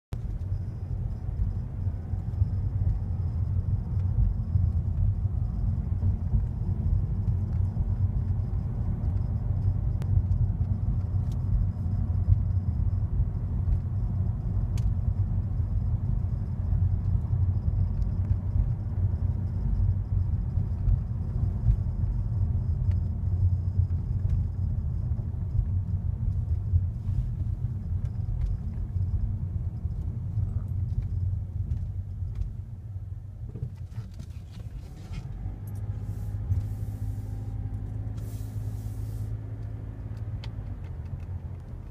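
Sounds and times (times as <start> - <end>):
car engine rumble: 0.1 - 41.9.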